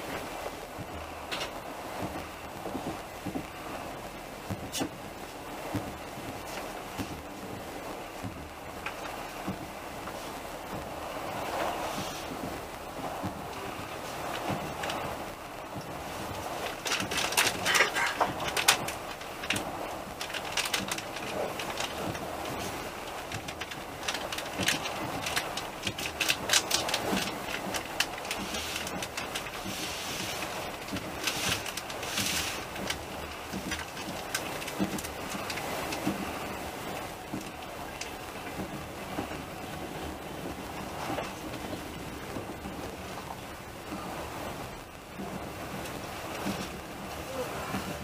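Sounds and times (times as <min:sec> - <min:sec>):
passenger train rumbling: 0:00.0 - 0:48.0.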